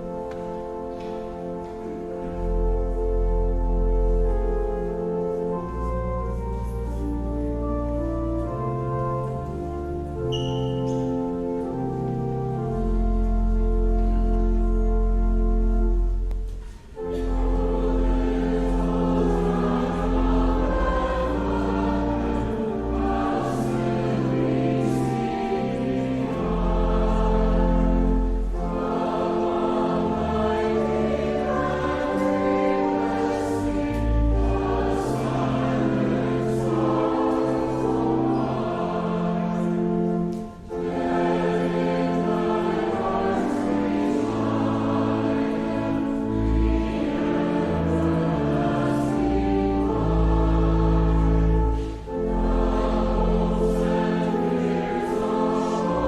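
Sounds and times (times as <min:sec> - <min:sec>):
church choir singing: 0:00.0 - 0:56.0
instrumental accompaniment: 0:00.0 - 0:56.0.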